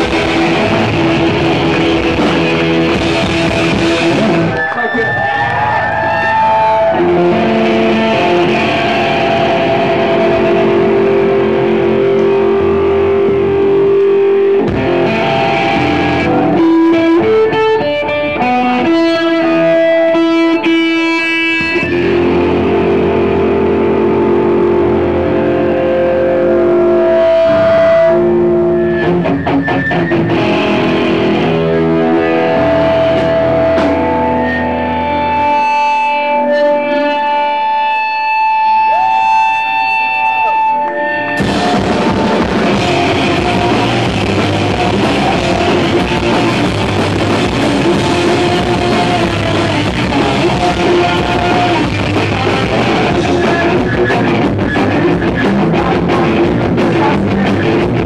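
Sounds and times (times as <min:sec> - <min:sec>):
live punk rock band: 0:00.0 - 0:58.0.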